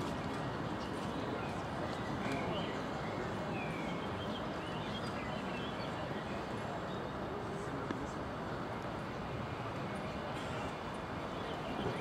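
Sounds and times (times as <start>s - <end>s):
murmur of distant voices: 0.0s - 12.0s.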